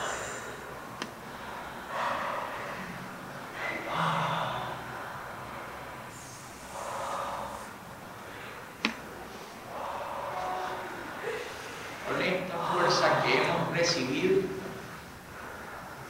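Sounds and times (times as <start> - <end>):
man breathing deeply: 0.0 - 13.3, 14.6 - 16.0.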